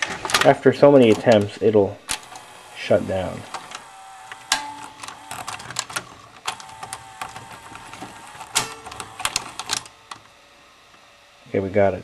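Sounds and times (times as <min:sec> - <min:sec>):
gears clicking and clattering: 0:00.0 - 0:10.2
faint motor whine: 0:00.0 - 0:12.0.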